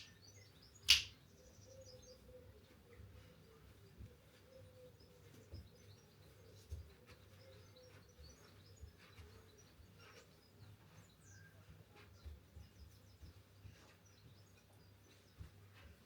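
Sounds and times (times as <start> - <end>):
faint bird chirps: 0.0 - 15.5.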